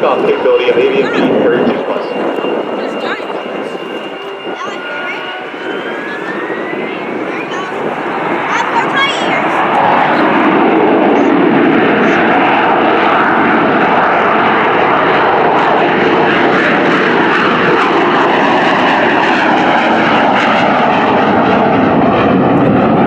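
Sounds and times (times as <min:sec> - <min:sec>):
jet engine at high thrust: 0:00.0 - 0:23.0.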